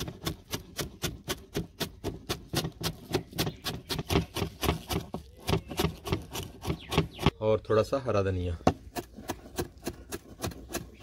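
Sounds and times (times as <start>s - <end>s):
knife chopping leaves: 0.0s - 7.3s, 8.6s - 11.0s.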